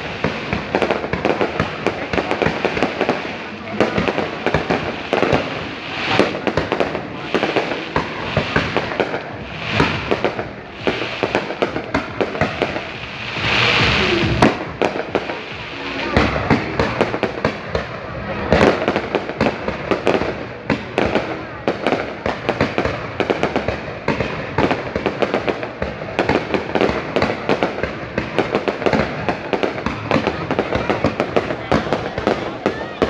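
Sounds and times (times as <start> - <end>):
fireworks bangs and crackles: 0.0 - 33.0
fireworks hissing rush: 0.0 - 33.0.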